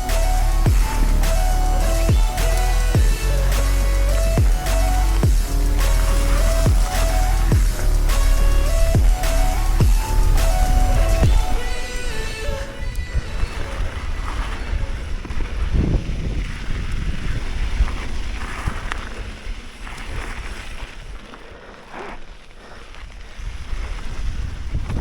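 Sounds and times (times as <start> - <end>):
mountain bike rumble and rattle: 0.0 - 12.4, 13.0 - 25.0
wind buffeting microphone: 0.0 - 21.4, 22.9 - 25.0.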